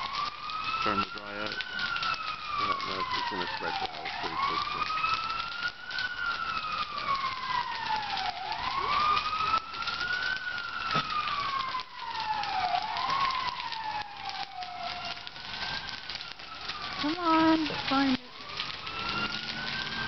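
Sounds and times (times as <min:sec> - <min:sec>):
emergency siren wailing: 0:00.0 - 0:20.0
fire crackling: 0:00.0 - 0:20.0.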